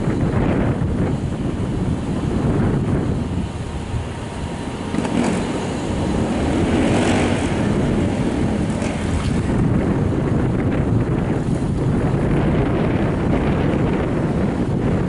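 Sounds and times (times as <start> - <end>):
subway train rumbling: 0.0 - 15.0
wind buffeting microphone: 0.0 - 15.0.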